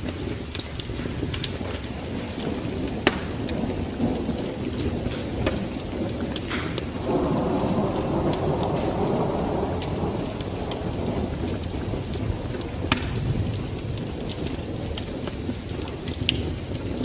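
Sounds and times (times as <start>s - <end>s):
steady rain: 0.0s - 17.0s
thunder rolling: 0.0s - 17.0s
wood fire popping and crackling: 0.0s - 17.0s.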